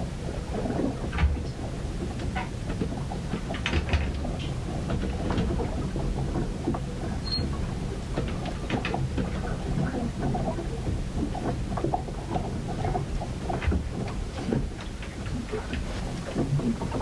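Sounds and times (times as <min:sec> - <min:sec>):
rumble of wind and water: 0:00.0 - 0:17.0.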